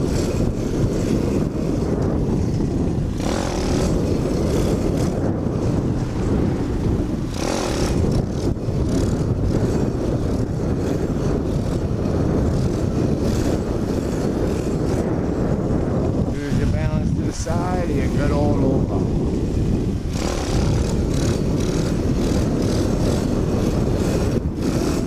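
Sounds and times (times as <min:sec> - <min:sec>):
pit bike riding: 0:00.0 - 0:25.0
wind rumble on microphone: 0:00.0 - 0:25.0.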